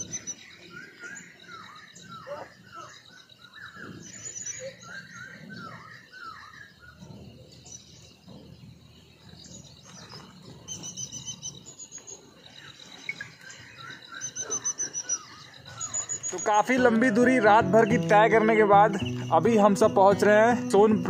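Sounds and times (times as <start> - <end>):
birds chirping: 0.0 - 21.0
high bird trill: 0.0 - 21.0.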